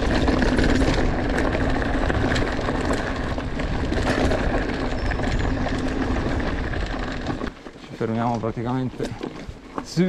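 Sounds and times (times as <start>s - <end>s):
bike rattles and knocks: 0.0s - 10.0s
bike tyre and wind noise: 0.0s - 10.0s.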